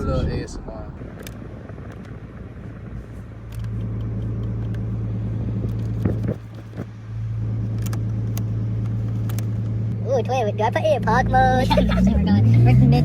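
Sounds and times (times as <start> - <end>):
car engine drone from inside cabin: 0.0 - 13.0.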